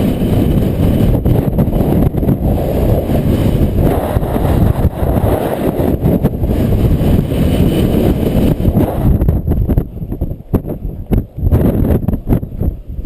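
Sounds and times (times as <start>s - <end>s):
motorcycle engine rumbling: 0.0s - 13.0s
wind buffeting microphone: 0.0s - 13.0s.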